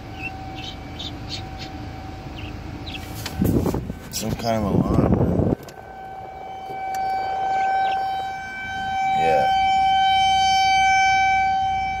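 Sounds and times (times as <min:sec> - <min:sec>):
alarm siren steady high tone: 0:00.0 - 0:12.0.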